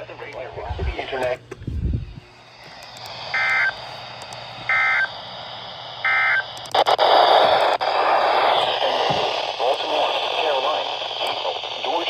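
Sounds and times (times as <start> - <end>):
loud radio static hiss: 0.0 - 12.0.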